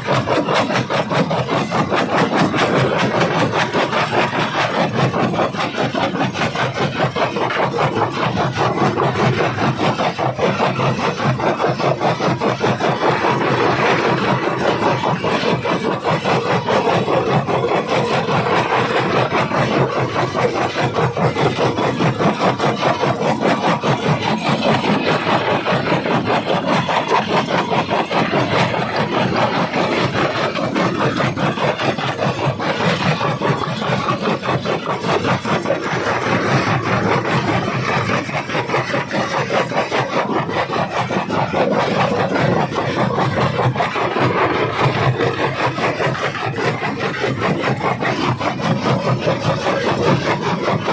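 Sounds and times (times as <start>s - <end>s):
rock crusher grinding stone: 0.0s - 50.9s.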